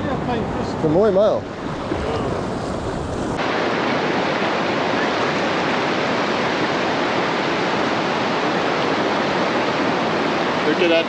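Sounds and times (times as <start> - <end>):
surf washing on shore: 0.0 - 11.0.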